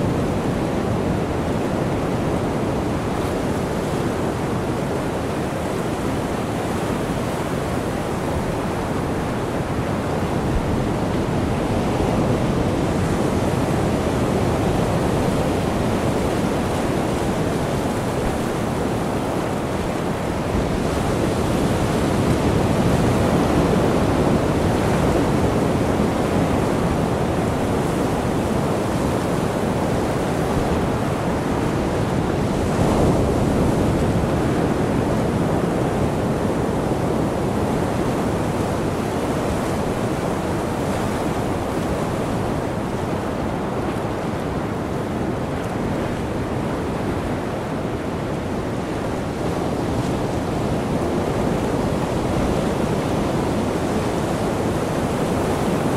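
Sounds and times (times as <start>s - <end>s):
ocean waves rushing: 0.0s - 55.9s.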